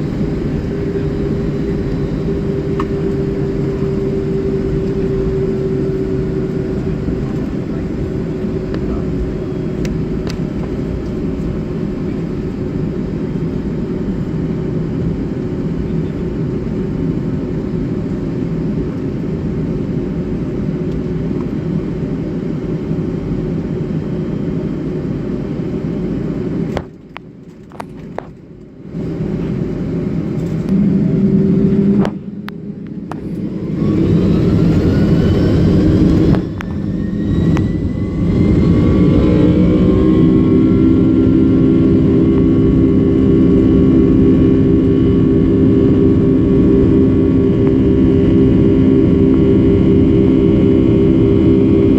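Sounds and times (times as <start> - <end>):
jet engines spooling up: 0.0 - 22.2, 28.9 - 51.9
airliner cabin rumble: 0.0 - 51.9.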